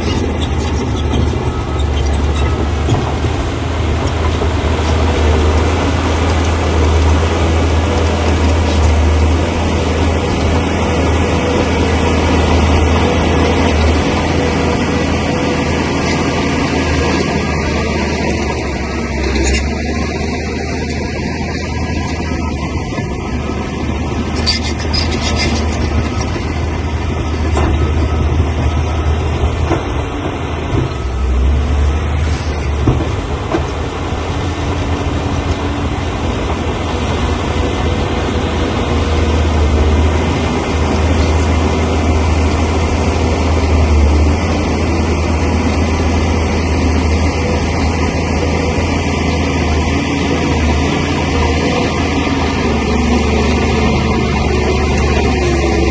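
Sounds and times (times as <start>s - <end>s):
bulldozer diesel engine under load: 0.0s - 55.9s
steel tracks clanking and squealing: 0.0s - 55.9s.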